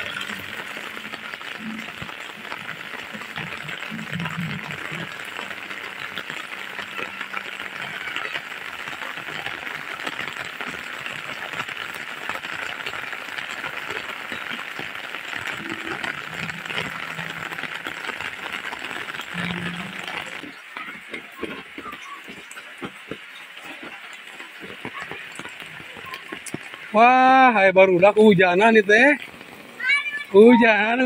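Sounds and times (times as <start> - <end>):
heavy rain on roofs and paving: 0.0 - 31.0
water dripping and splashing: 0.0 - 31.0.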